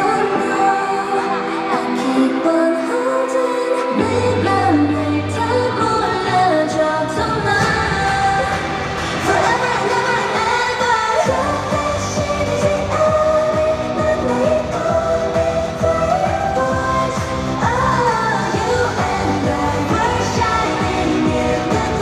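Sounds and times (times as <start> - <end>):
pop song over sound system: 0.0 - 22.0
woman singing: 0.0 - 22.0
heavy bass: 4.0 - 22.0.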